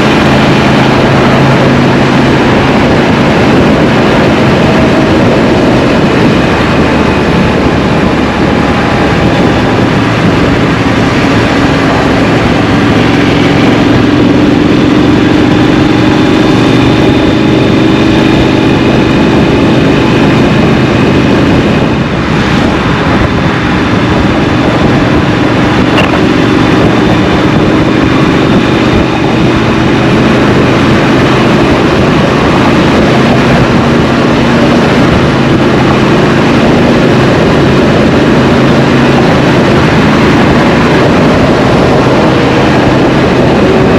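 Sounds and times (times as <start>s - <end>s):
motorcycle engine running: 0.0s - 43.9s
wind rumble on microphone: 0.0s - 43.9s.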